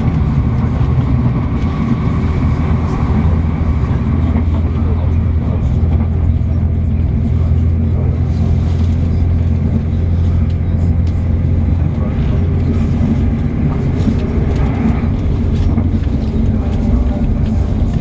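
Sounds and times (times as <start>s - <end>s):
diesel engine drone: 0.0s - 18.0s
train wheels rumbling on rails: 0.0s - 18.0s.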